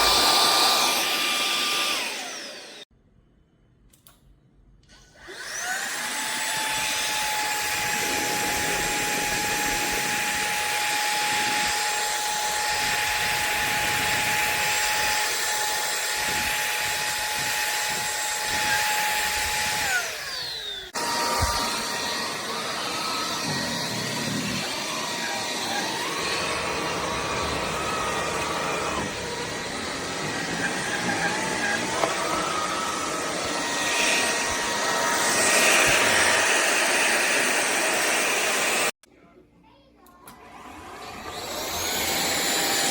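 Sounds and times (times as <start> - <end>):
stick vacuum motor whining: 0.0 - 2.9, 4.9 - 39.0, 40.2 - 42.9.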